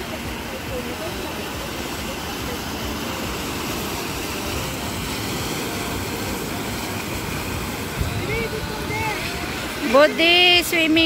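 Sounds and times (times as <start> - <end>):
car engine noise: 0.0 - 11.0
water rushing from tyres: 0.0 - 11.0.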